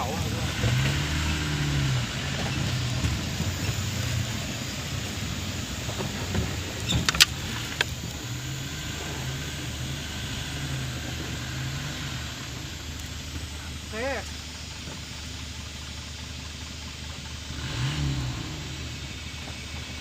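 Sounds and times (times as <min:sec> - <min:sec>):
truck engine revving under load: 0:00.0 - 0:20.0.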